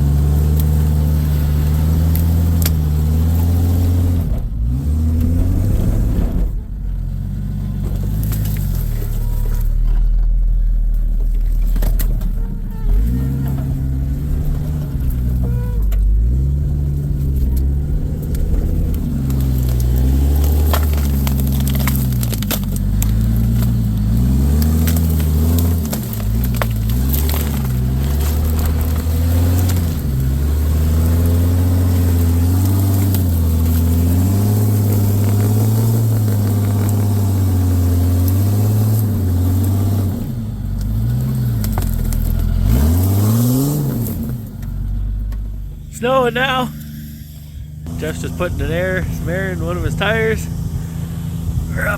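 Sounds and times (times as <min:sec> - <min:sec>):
crackles and scrapes: 0:00.0 - 0:51.9
off-road engine revving: 0:00.0 - 0:51.9.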